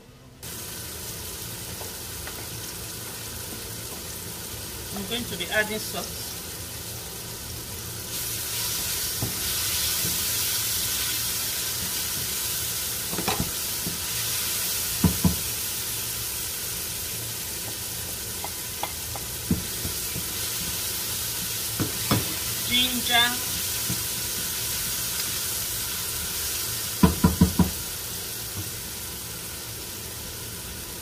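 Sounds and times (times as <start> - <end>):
vegetables sizzling in a wok: 0.3 - 31.0.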